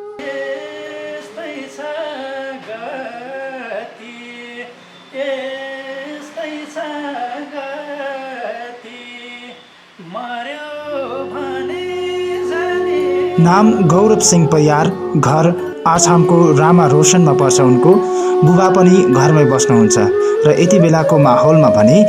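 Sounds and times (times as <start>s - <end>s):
man singing slow melody: 0.0s - 22.0s.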